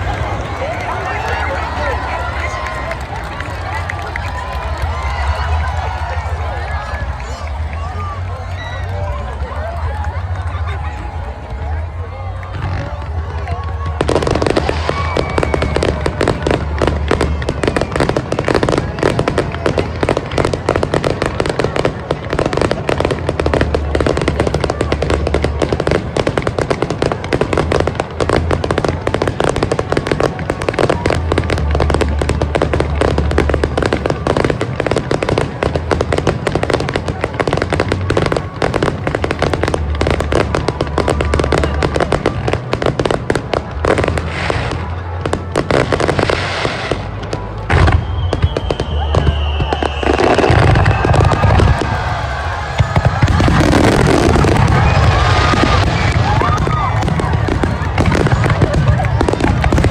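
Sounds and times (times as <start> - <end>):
fireworks bursting and crackling: 0.0 - 59.9
music: 0.0 - 59.9.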